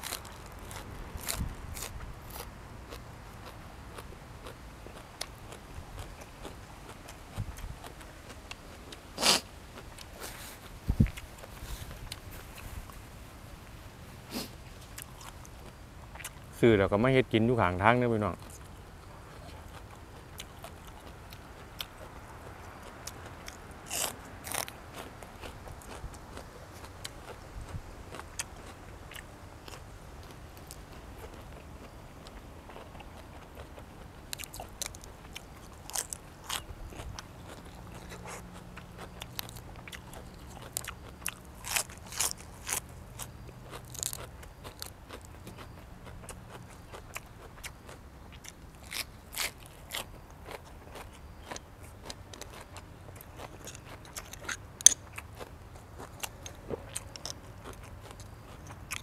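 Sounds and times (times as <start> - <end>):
person chewing and crunching: 0.0 - 12.7, 14.3 - 16.6, 18.2 - 59.0.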